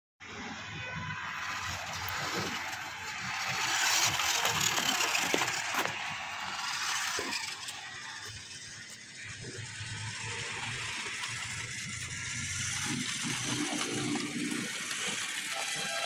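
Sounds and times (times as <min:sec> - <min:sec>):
toy truck motor whirring: 0:00.4 - 0:16.0.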